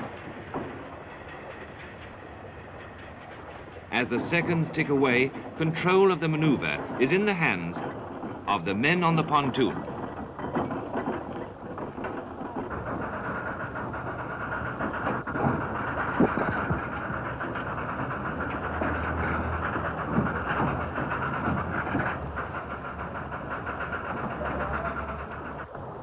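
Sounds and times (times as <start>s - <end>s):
train rumbling across steel bridge: 0.0s - 26.0s.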